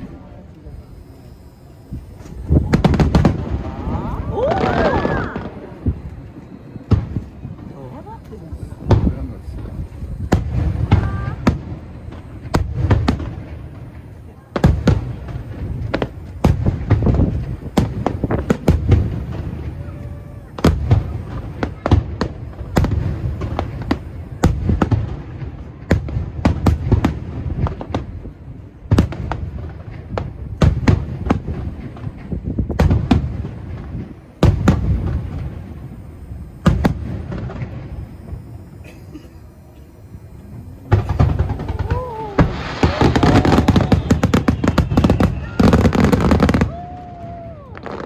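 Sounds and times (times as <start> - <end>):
fireworks booming: 0.0 - 48.0.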